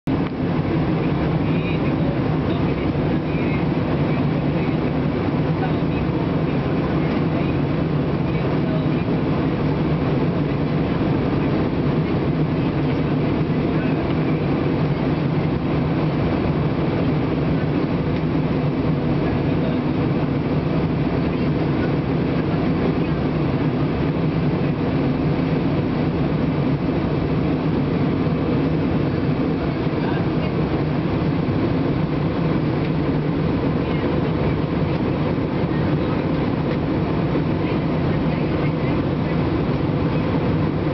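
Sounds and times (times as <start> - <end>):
jet airliner cabin drone: 0.1 - 40.9.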